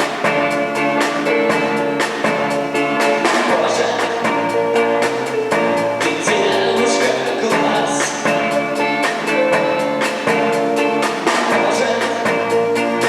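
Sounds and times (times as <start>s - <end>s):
drum kit beat: 0.0s - 13.0s
electric guitar: 0.0s - 13.0s
live rock band playing: 0.0s - 13.0s.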